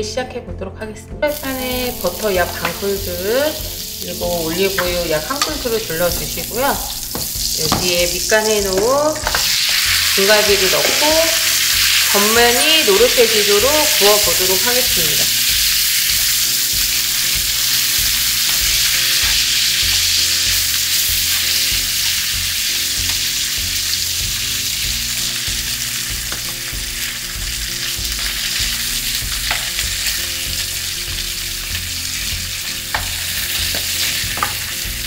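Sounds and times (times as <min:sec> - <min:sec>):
meat sizzling in a frying pan: 0:01.3 - 0:35.0.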